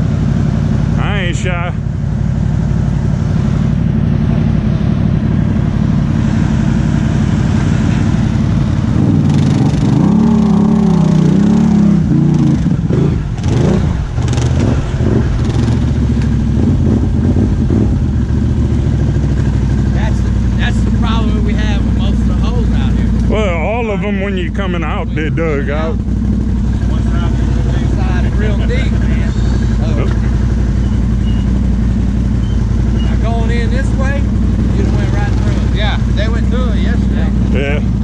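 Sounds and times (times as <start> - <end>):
atv engines revving under load: 0.0 - 38.0.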